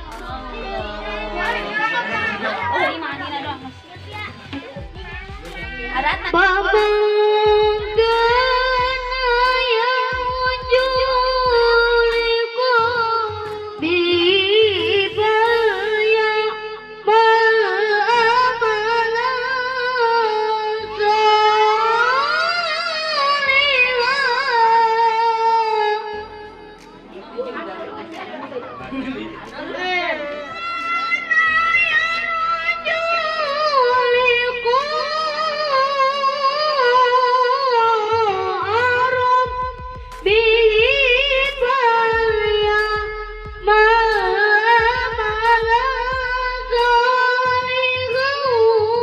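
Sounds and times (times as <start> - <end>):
boy chanting through a microphone: 0.0 - 49.0.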